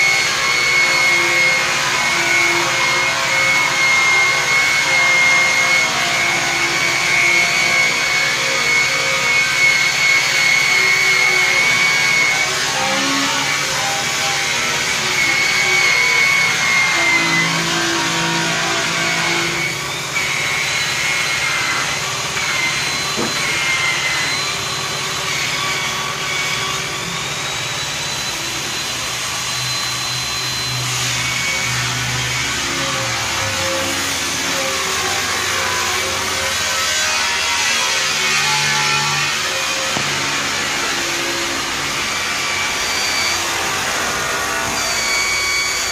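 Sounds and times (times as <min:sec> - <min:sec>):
electric buffer whining: 0:00.0 - 0:45.9.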